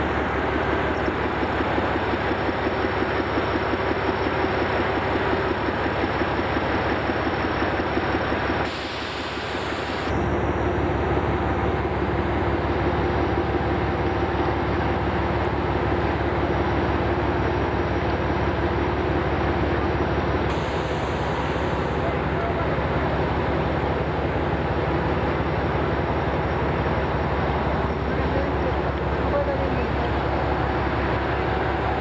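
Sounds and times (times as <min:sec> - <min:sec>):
diesel locomotive engine throbbing: 0:00.0 - 0:32.0.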